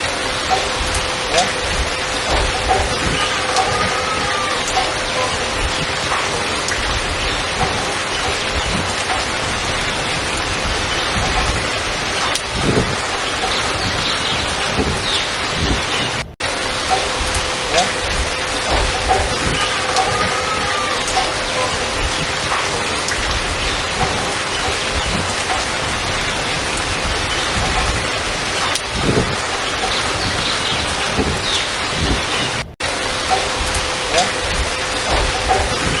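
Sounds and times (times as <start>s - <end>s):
waterfall splashing over rocks: 0.0s - 36.0s.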